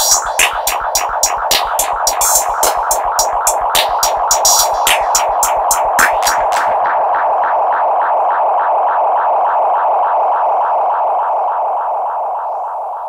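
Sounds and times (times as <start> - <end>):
pulsing synthesized tone: 0.0 - 13.0.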